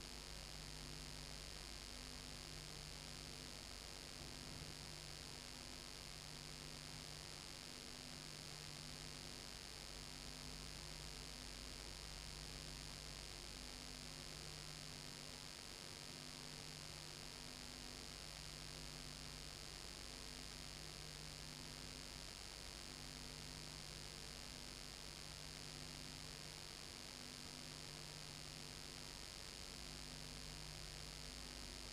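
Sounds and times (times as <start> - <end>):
low electrical hum with hiss: 0.0 - 31.9.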